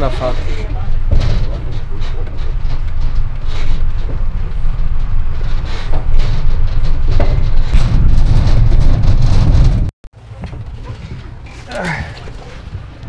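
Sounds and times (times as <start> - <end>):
road train rumbling: 0.0 - 13.0
wagon rattles and knocks: 0.0 - 13.0.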